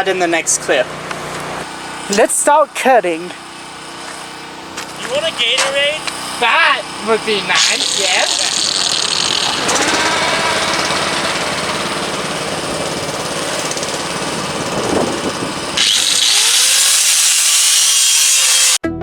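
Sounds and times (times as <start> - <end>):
angle grinder cutting steel: 0.9 - 18.8.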